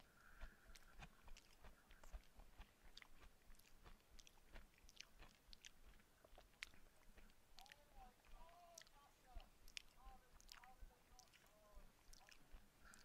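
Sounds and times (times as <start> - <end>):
mouth chewing food: 0.0 - 13.0.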